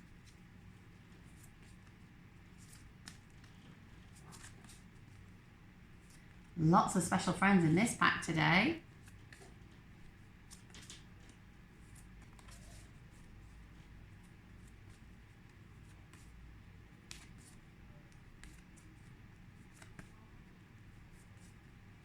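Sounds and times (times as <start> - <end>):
faint room hum: 0.0 - 22.0.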